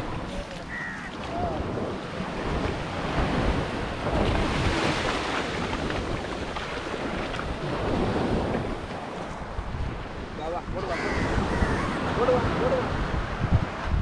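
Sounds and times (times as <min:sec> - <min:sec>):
sea waves washing on beach: 0:00.0 - 0:14.0
wind buffeting microphone: 0:00.0 - 0:14.0.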